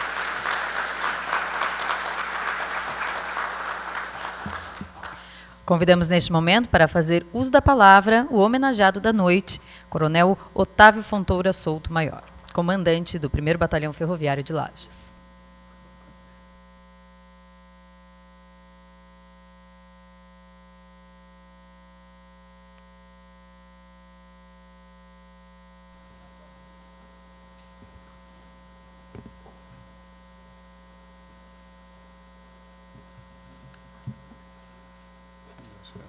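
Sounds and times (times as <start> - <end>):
electrical mains hum: 0.0 - 36.0.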